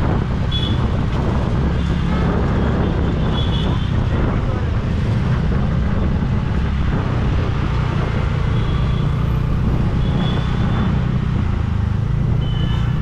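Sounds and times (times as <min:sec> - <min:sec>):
scooter engine and road rumble: 0:00.0 - 0:13.0.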